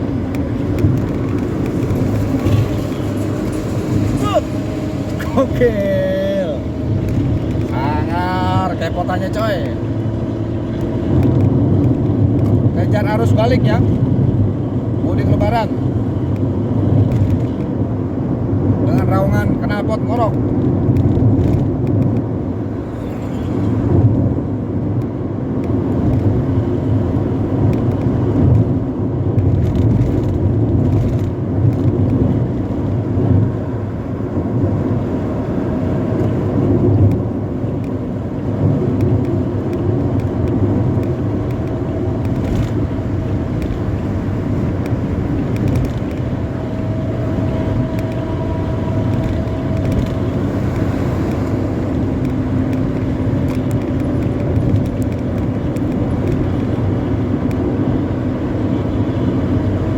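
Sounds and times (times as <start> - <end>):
bus exhaust rumble: 0.0 - 59.9
road noise: 0.0 - 59.9.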